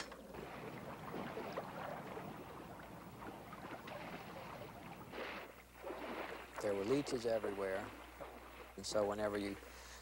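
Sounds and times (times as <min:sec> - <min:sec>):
people wading through water: 0:00.0 - 0:10.0.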